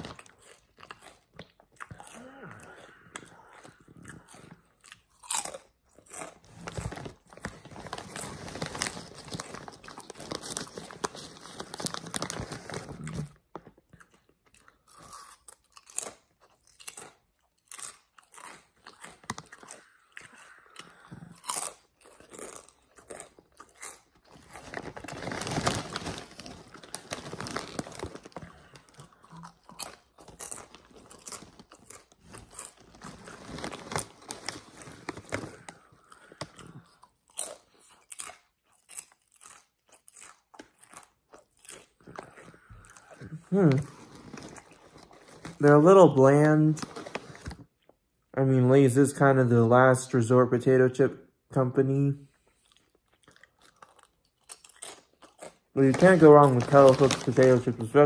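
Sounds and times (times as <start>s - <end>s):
person chewing crunchy chips: 0.0s - 48.2s, 52.3s - 58.0s.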